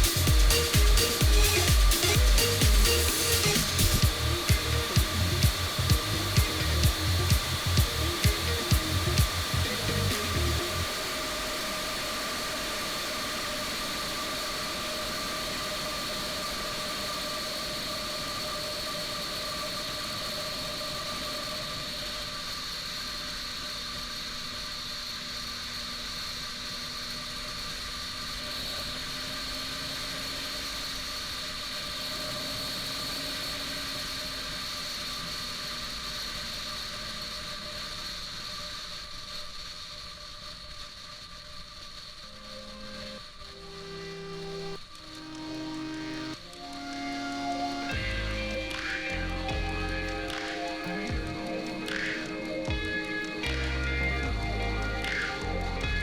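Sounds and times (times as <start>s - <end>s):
motorcycle engine whine: 0.0s - 56.0s.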